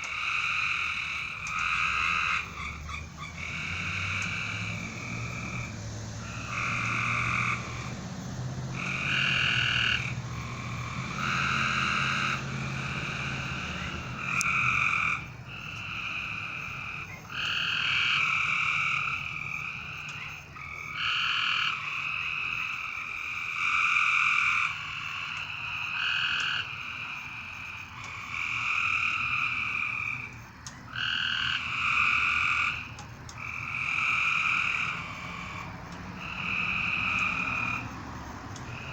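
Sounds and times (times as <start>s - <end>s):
frogs calling: 0.0s - 38.9s.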